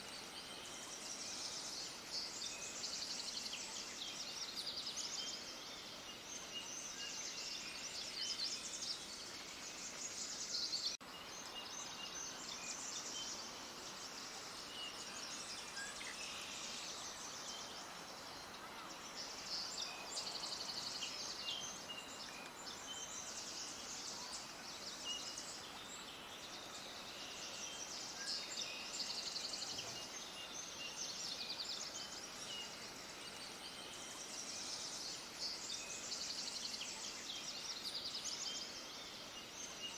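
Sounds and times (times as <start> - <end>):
faint hiss: 0.0 - 39.9
songbirds chirping and trilling: 0.0 - 39.9.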